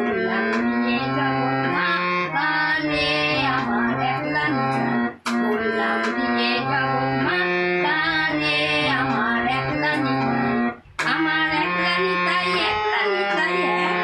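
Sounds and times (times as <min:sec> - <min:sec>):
harmonium playing: 0:00.0 - 0:14.0
woman singing: 0:00.0 - 0:14.0.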